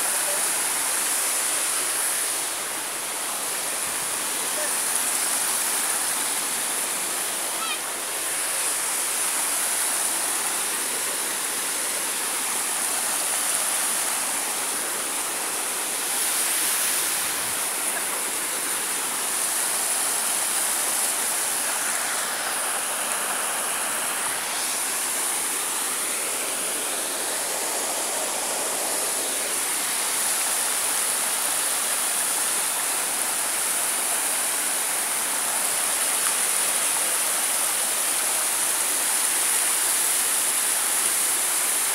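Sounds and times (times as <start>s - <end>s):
mountain stream and waterfall rushing: 0.0s - 41.9s.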